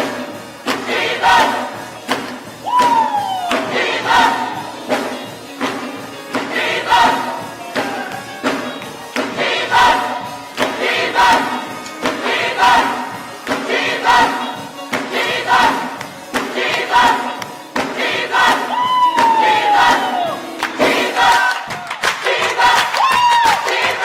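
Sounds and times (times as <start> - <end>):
choir singing gospel music: 0.0 - 24.0
strong beat: 0.0 - 24.0.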